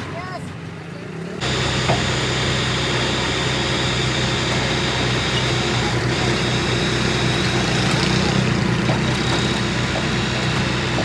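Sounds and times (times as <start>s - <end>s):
machine humming: 1.4s - 11.0s.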